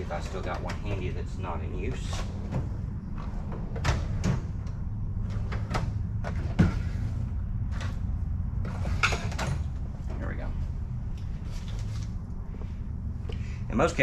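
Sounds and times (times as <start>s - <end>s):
rummaging through parts: 0.0s - 12.8s
steady low hum: 0.0s - 14.0s.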